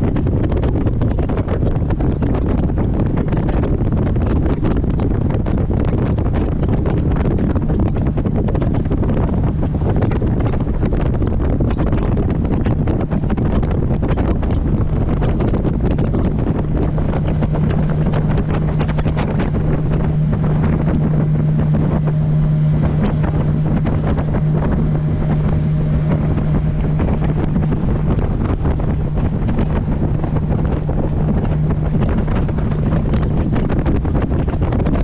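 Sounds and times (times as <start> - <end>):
hull slapping water: 0.0 - 35.0
outboard engine humming: 0.0 - 35.0
wind buffeting microphone: 0.0 - 35.0.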